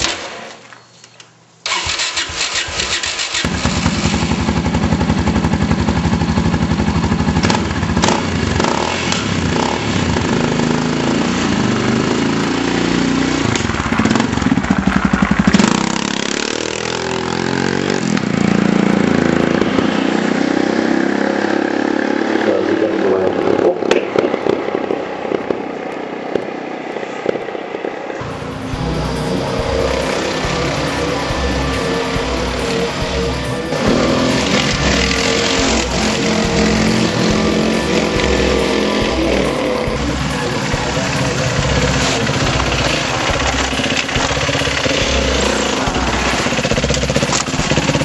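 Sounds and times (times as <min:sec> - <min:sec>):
motorcycle engine revving: 0:01.7 - 0:48.0.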